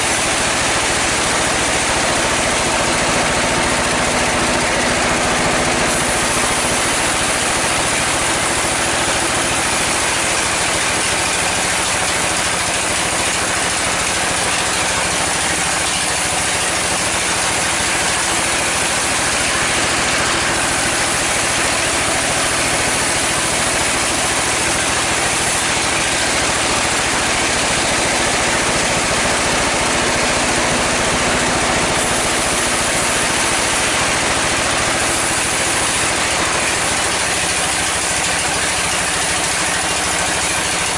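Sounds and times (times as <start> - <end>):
steady hum: 0.0 - 11.0, 15.2 - 40.9
sawmill machine drone: 0.0 - 40.9.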